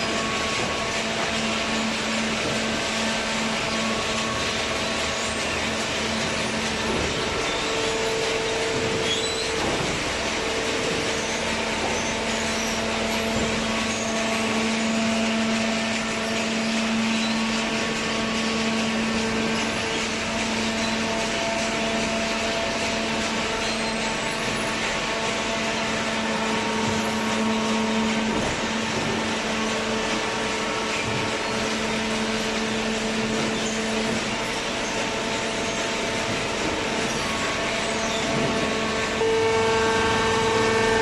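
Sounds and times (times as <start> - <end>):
motor and pump humming: 0.0 - 41.0
steady mechanical whine: 0.0 - 41.0.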